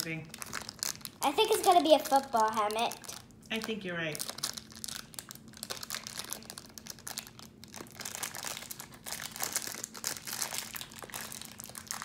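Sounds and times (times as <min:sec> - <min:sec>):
plastic wrapper crackling: 0:00.0 - 0:12.0.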